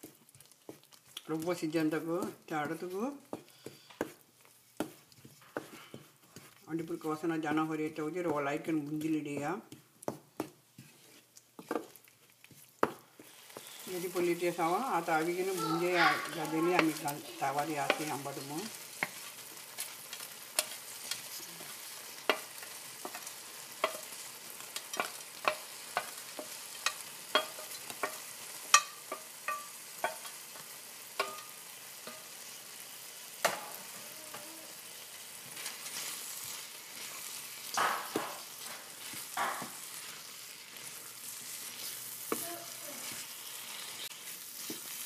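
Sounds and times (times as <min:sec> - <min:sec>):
curry sizzling in a pan: 0:00.0 - 0:45.0
stirring scraping strokes: 0:02.1 - 0:07.5, 0:08.3 - 0:30.6, 0:35.2 - 0:45.0.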